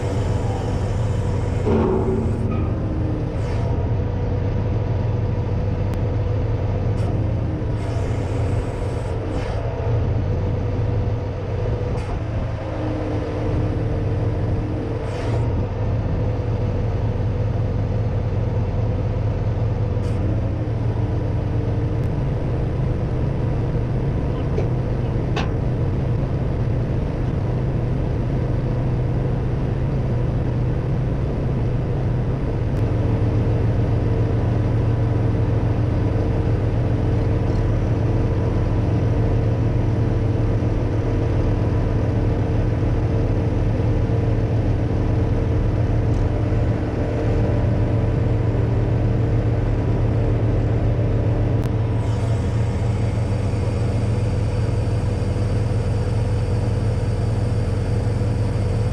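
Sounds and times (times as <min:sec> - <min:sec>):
truck engine running: 0:00.0 - 0:58.9.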